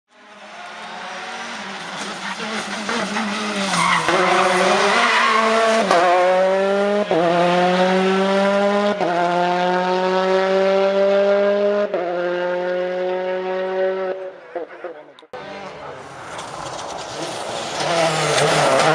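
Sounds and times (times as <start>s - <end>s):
rally car engine accelerating: 0.2s - 14.3s, 15.4s - 18.9s
rush of car noise: 0.2s - 14.4s, 15.3s - 18.9s.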